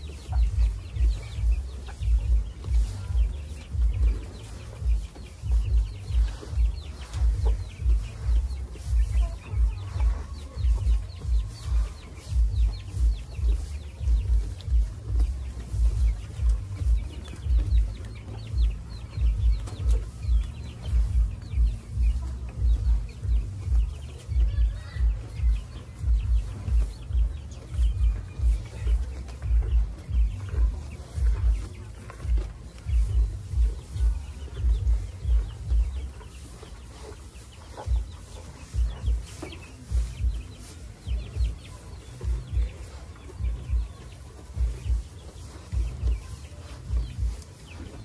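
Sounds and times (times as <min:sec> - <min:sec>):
calves chewing grass: 0:00.0 - 0:48.0
chickens clucking: 0:00.0 - 0:48.0
crunching of grass stalks: 0:00.0 - 0:48.0
low muffled thumps: 0:00.0 - 0:48.0.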